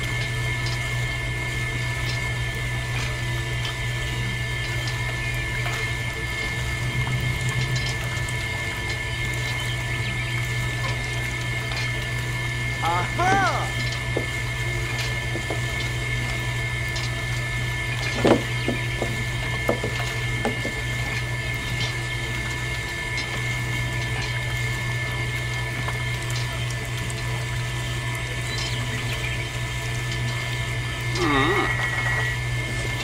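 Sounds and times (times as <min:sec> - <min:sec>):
liquid trickling into buckets: 0:00.0 - 0:33.0
small pump motor humming: 0:00.0 - 0:33.0.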